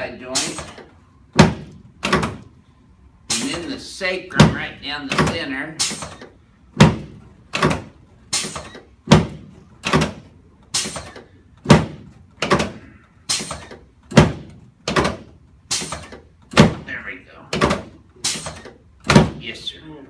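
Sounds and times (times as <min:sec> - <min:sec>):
adjusting table thumping: 0:00.4 - 0:02.5, 0:04.3 - 0:16.9, 0:17.5 - 0:19.4.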